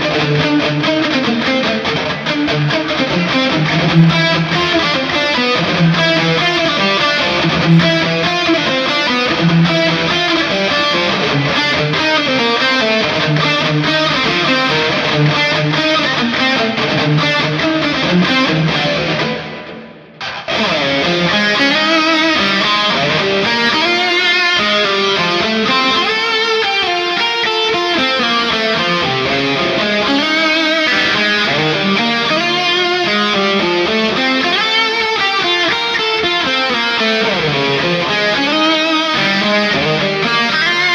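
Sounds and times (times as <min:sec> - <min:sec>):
electric guitar playing riffs: 0:00.0 - 0:40.9.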